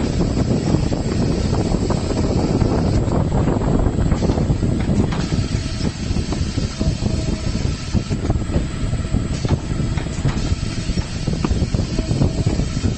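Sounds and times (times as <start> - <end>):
compressed air hiss: 0.0 - 12.9
machine mechanical rumble: 0.0 - 12.9.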